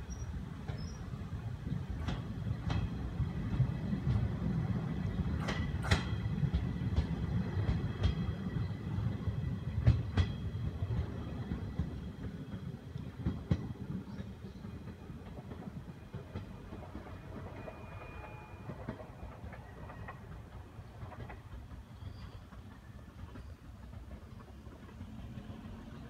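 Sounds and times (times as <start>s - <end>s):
electric train rumbling: 0.0s - 26.0s
wheels clicking over rail joints: 0.1s - 26.0s.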